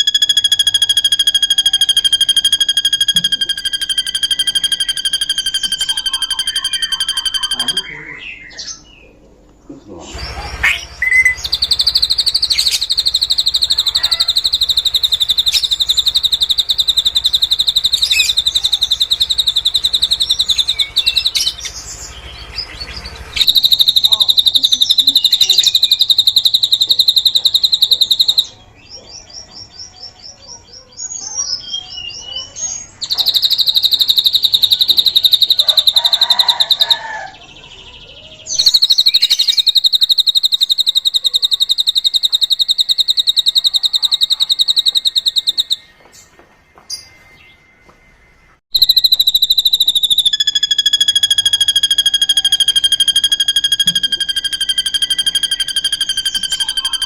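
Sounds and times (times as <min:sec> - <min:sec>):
bird singing fast high trill: 0:00.0 - 0:08.9, 0:10.3 - 0:28.7, 0:31.5 - 0:46.0, 0:48.7 - 0:57.0.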